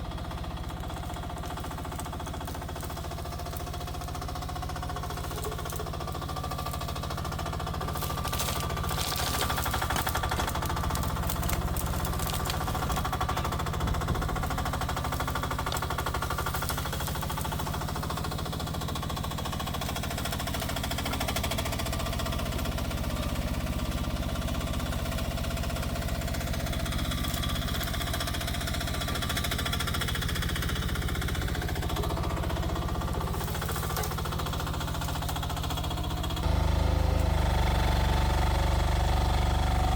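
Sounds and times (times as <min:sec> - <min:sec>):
mini excavator engine chugging: 0:00.0 - 0:39.9.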